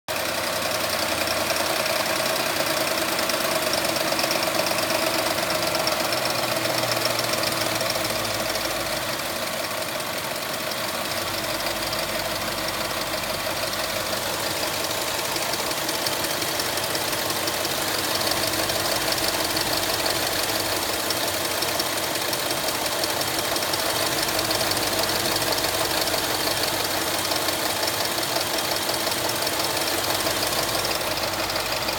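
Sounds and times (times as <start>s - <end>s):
car engine idling: 0.1s - 31.9s
fast ticking rattle: 0.1s - 31.9s.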